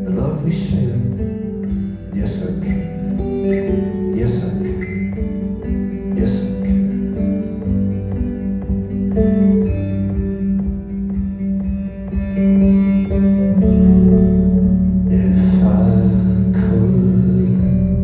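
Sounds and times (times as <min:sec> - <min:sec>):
acoustic guitar picking: 0:00.0 - 0:18.0
held bass notes: 0:00.0 - 0:18.0.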